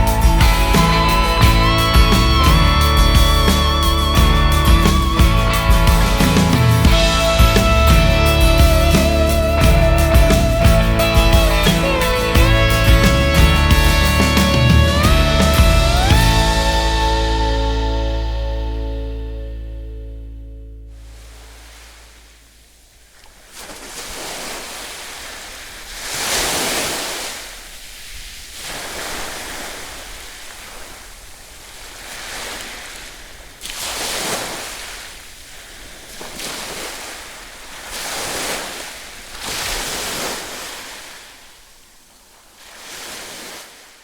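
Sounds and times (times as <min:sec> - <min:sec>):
ocean surf breaking: 0:00.0 - 0:19.0, 0:20.9 - 0:44.0.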